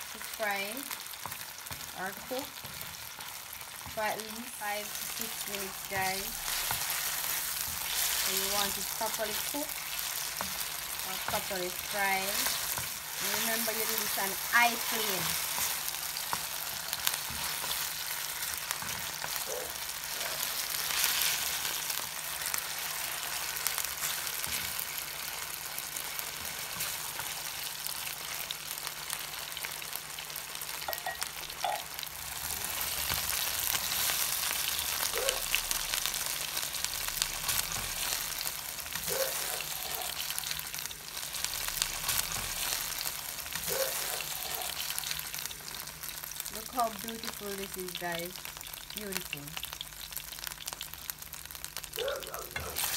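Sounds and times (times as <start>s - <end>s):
chicken sizzling in oil: 0.0s - 52.9s.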